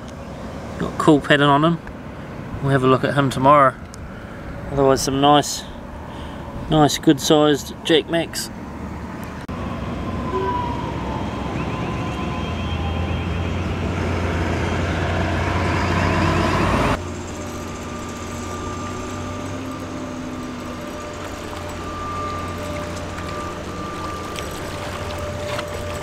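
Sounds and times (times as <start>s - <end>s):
heavy traffic rumbling: 0.0s - 26.0s
steady traffic hum: 0.0s - 26.0s.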